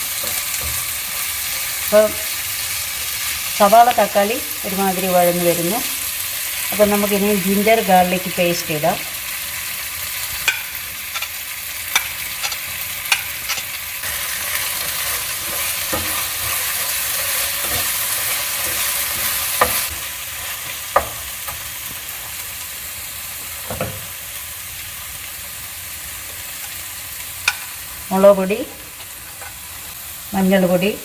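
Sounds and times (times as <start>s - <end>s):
food sizzling in hot oil: 0.0s - 31.0s.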